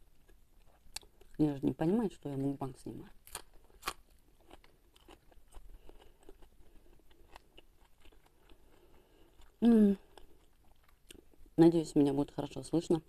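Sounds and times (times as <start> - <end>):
faint chewing with crunches: 0.0 - 11.6.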